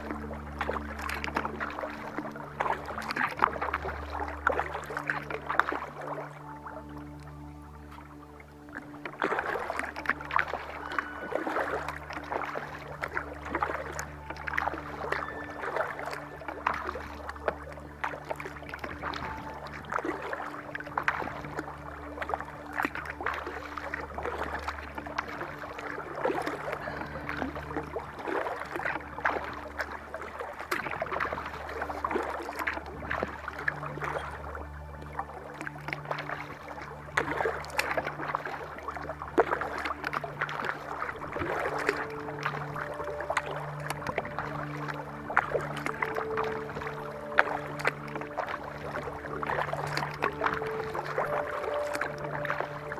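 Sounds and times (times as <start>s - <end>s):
paddle splashing water: 0.0s - 52.9s
soft background music: 0.0s - 52.9s.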